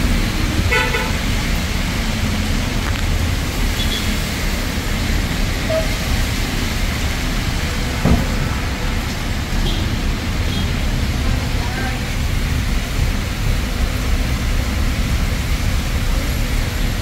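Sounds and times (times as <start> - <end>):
traffic on wet road: 0.0 - 17.0.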